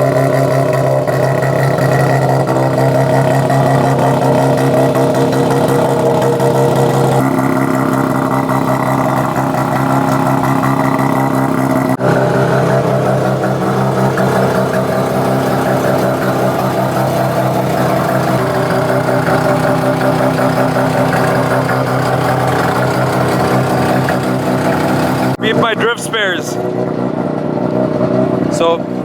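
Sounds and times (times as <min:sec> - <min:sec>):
rotary engine idling: 0:00.0 - 0:29.0.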